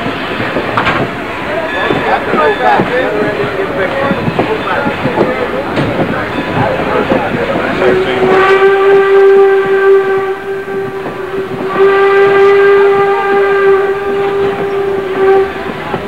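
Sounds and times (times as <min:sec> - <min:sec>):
steam locomotive whistle blast: 0:01.4 - 0:16.0.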